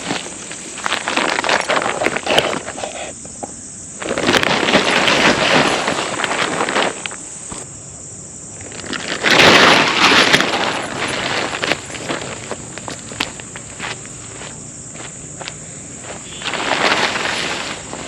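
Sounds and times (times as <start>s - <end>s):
rustling and crackling clicks: 0.0s - 7.7s, 8.6s - 14.1s, 16.4s - 18.0s
crickets chirring: 0.0s - 18.0s.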